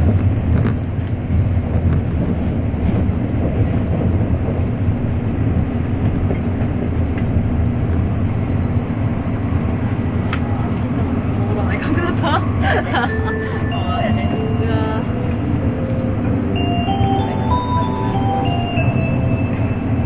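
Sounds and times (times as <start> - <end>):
train interior low rumble: 0.0 - 20.0.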